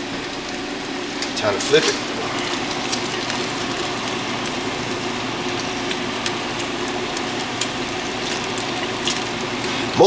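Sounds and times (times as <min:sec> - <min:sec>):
bacon sizzling in a frying pan: 0:00.0 - 0:10.0.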